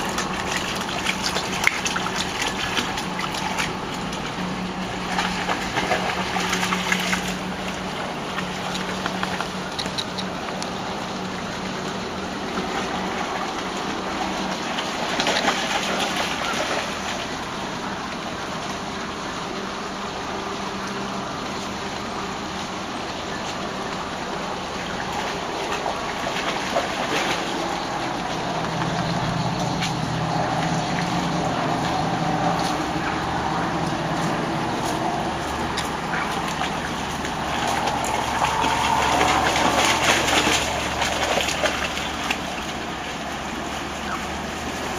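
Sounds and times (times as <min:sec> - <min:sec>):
dogs splashing through water: 0:00.0 - 0:44.9
water gushing across ground: 0:00.0 - 0:44.9.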